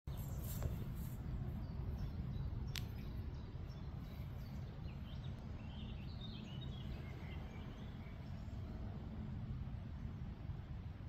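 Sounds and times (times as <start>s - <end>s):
wind rumble on microphone: 0.1s - 11.0s.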